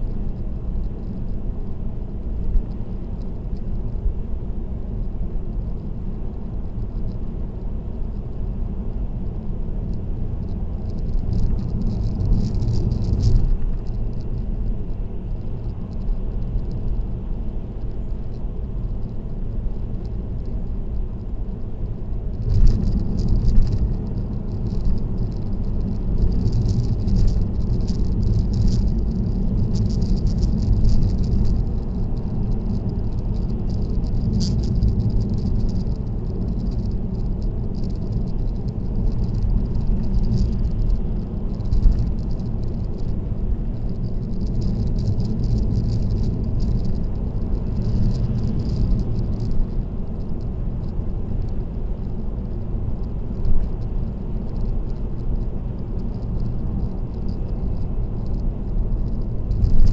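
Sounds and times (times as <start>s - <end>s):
car road noise: 0.0s - 59.9s
light rattle: 9.8s - 59.9s.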